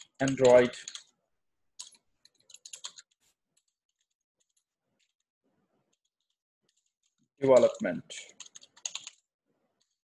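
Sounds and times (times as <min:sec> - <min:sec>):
keyboard typing: 0:00.0 - 0:05.2, 0:05.9 - 0:10.0.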